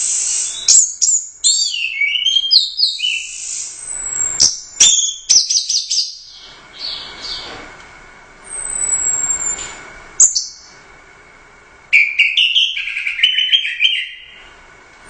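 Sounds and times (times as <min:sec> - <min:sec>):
thrush singing whistled notes: 0:00.0 - 0:07.5, 0:08.5 - 0:10.8, 0:11.9 - 0:14.5.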